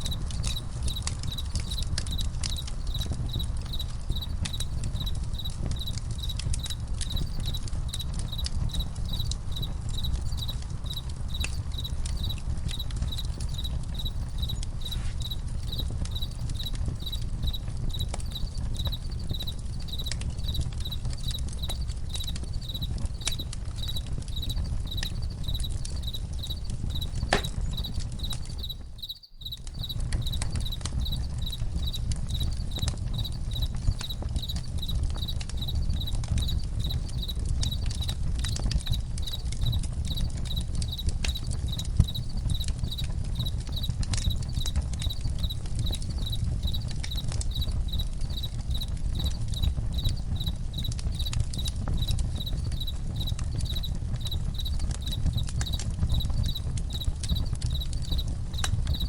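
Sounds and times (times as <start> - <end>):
campfire crackling and popping: 0.0 - 59.0
crickets chirping: 0.0 - 59.0.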